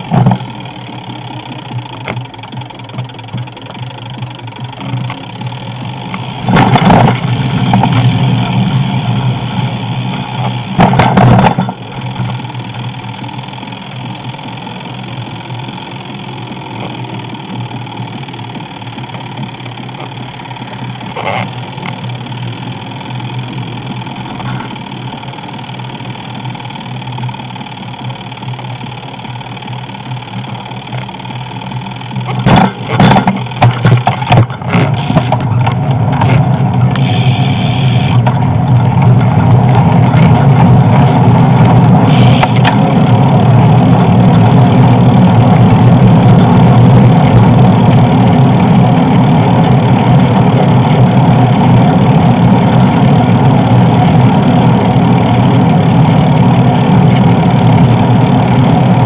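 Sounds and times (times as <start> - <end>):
bicycle rolling: 0.0 - 59.0
low hum: 0.0 - 59.0.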